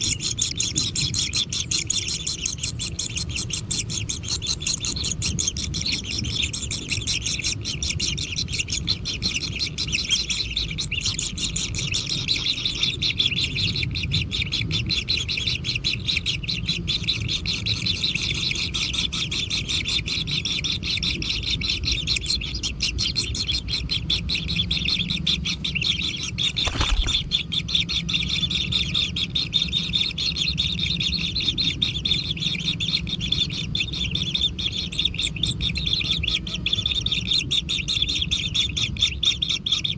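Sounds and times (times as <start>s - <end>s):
nestlings chirping: 0.0s - 39.9s.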